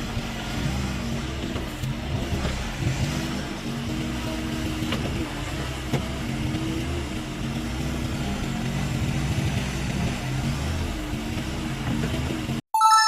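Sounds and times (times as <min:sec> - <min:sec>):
heavy machinery engine running: 0:00.0 - 0:12.6.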